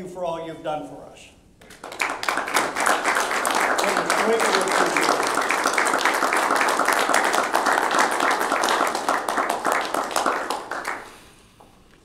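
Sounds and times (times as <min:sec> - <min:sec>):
people clapping: 0:01.6 - 0:11.3.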